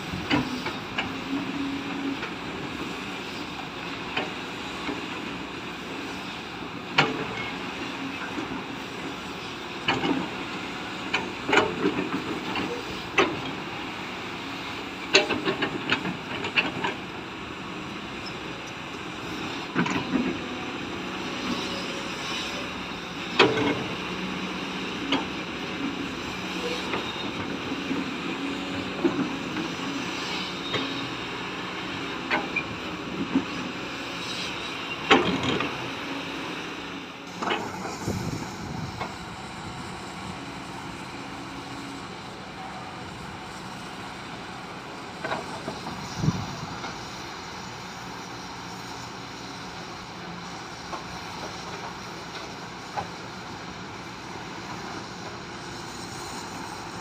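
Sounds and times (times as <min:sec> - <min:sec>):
vehicle running noise: 0:00.0 - 0:57.0.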